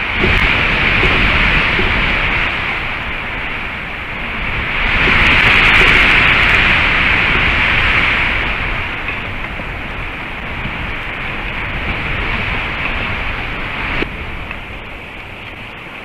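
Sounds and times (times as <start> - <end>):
gusty wind on microphone: 0.0 - 16.0.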